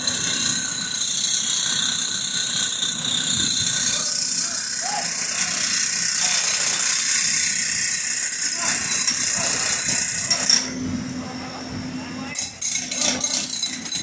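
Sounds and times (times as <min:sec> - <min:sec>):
jackhammer breaking concrete: 0:00.0 - 0:10.7, 0:12.4 - 0:14.0.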